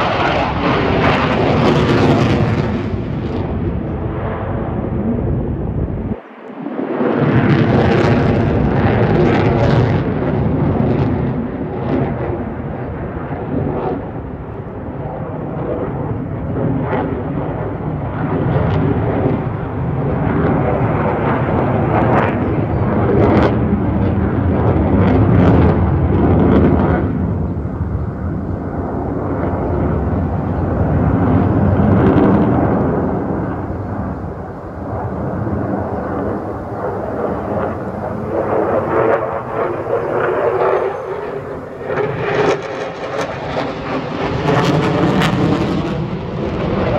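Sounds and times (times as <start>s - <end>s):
fighter jets roaring overhead: 0.0s - 46.9s.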